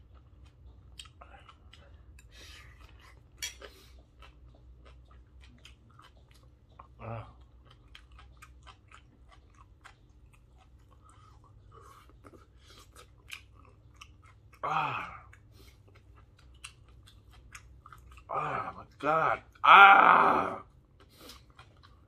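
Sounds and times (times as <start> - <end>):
man chewing food: 0.0 - 22.0.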